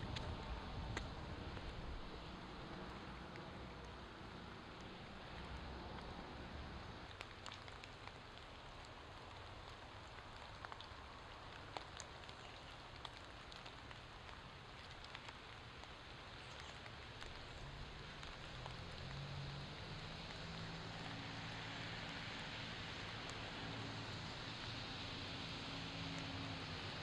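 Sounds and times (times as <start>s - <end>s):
light rain hissing: 0.0s - 27.0s
single raindrop ticks: 0.1s - 4.0s, 7.0s - 27.0s.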